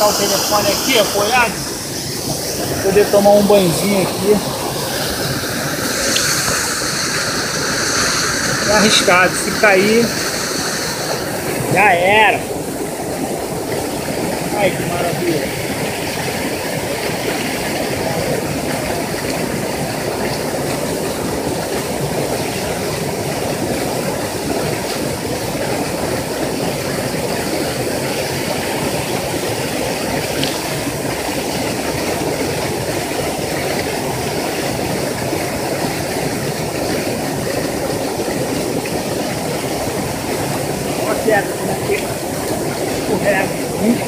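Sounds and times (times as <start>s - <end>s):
small waterfall rushing: 0.0s - 44.0s.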